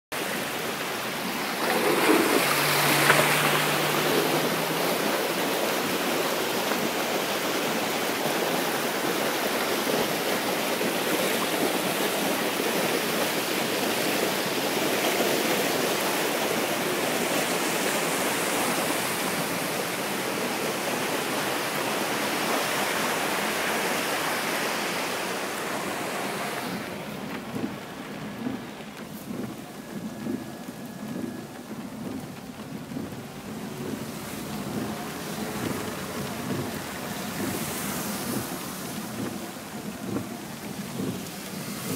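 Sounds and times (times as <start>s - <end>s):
floodwater rushing: 0.1s - 41.9s
torrential rain: 0.1s - 41.9s.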